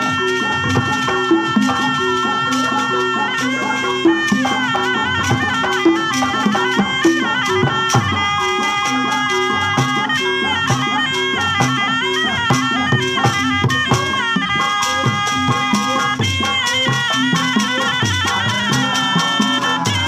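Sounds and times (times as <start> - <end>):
double-reed shawm melody: 0.0 - 20.0
hand drums rhythm: 0.0 - 20.0.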